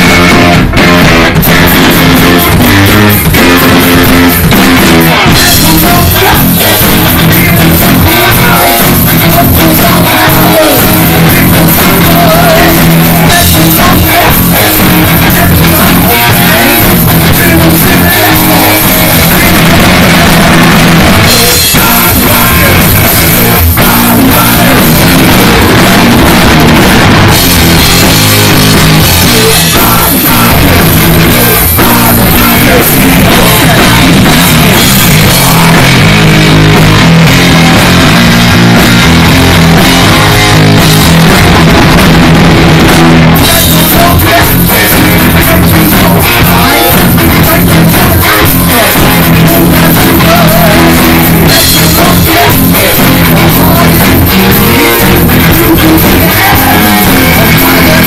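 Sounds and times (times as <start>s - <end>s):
distorted electric guitar: 0.0s - 58.0s
drum kit: 0.0s - 58.0s
electric bass: 0.0s - 58.0s
person singing: 0.0s - 58.0s.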